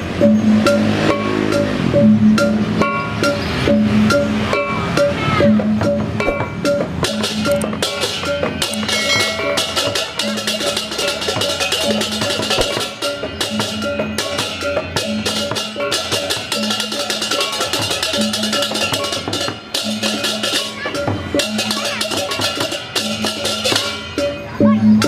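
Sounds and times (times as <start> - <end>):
drums: 0.0 - 25.0
metallic gong-chimes and cymbals: 0.0 - 25.0.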